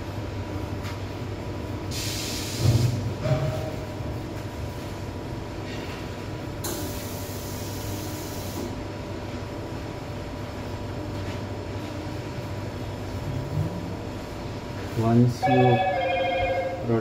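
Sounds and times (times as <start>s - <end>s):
machine hum with hiss: 0.0s - 15.8s.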